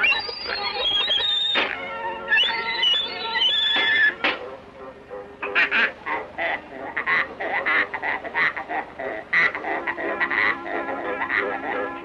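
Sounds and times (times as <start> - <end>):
cartoon squeezed pig notes: 0.0 - 4.4, 5.4 - 12.0.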